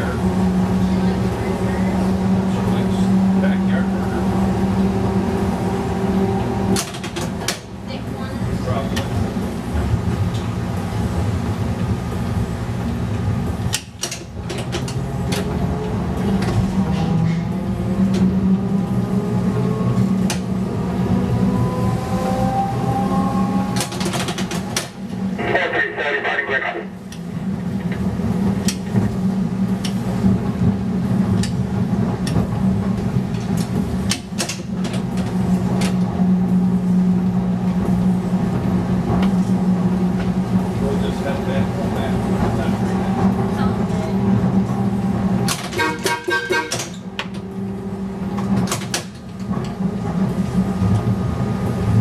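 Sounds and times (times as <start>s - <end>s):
streetcar rumbling: 0.0s - 52.0s.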